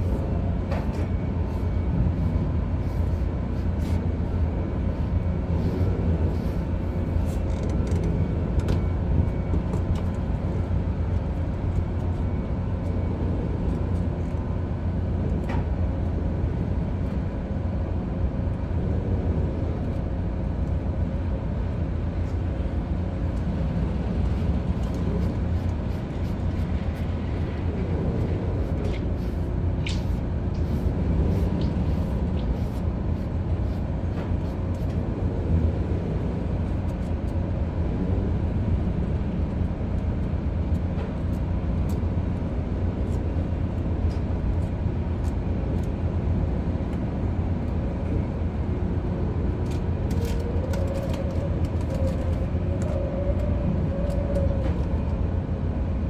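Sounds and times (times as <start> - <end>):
ship machinery rumble: 0.0 - 56.0.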